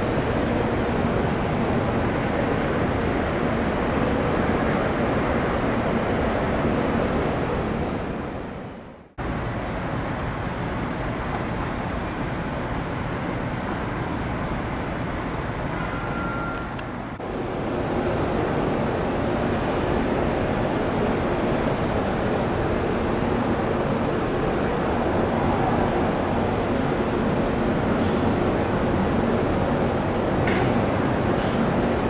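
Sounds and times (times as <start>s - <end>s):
jet airliner engine rushing: 0.0s - 32.0s.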